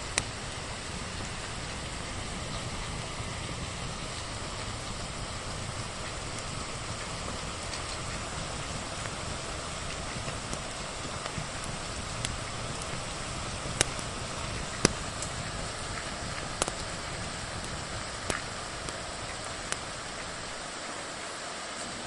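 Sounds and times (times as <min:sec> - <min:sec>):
fire popping: 0:00.0 - 0:21.2
rain hissing: 0:00.0 - 0:22.0
wood fire crackling: 0:00.0 - 0:22.0.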